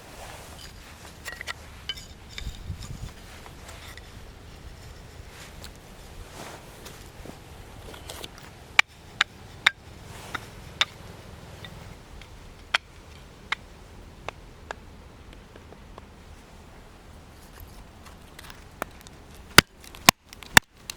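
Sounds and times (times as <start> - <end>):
soft hiss: 0.0 - 20.9
wood fire crackling: 0.0 - 20.9.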